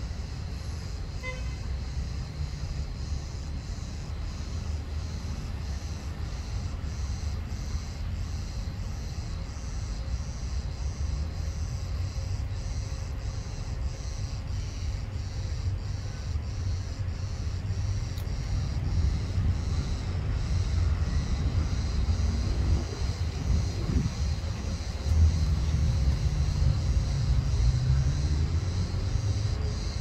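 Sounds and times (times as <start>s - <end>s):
cicadas pulsing: 0.0s - 30.0s.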